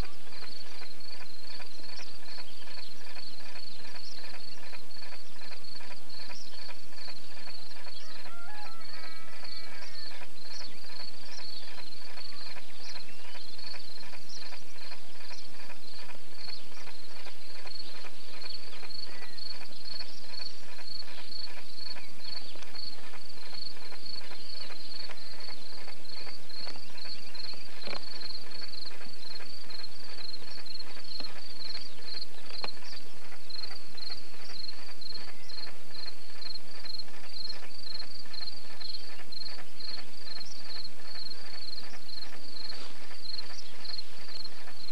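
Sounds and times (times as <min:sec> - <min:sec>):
cricket chirping: 0:00.0 - 0:44.9
faint birdsong: 0:00.0 - 0:44.9.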